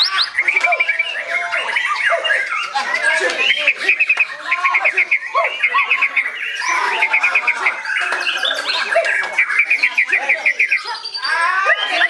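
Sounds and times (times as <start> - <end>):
bird singing varied song: 0.0 - 12.0.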